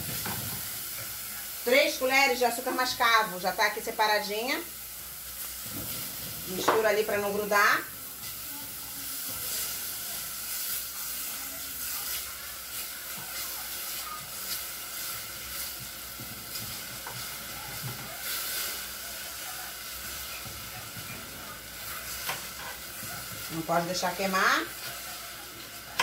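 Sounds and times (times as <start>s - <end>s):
spatula stirring against pan: 0.0s - 3.8s, 4.7s - 26.0s
food sizzling in oil: 0.0s - 26.0s.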